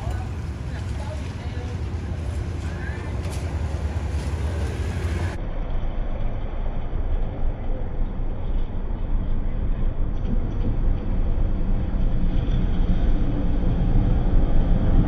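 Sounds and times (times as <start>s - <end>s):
locomotive rumbling: 0.0s - 15.0s.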